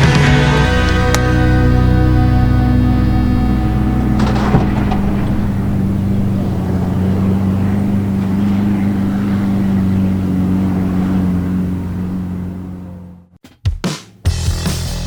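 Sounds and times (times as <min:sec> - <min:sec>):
engine running steadily: 0:00.0 - 0:13.4.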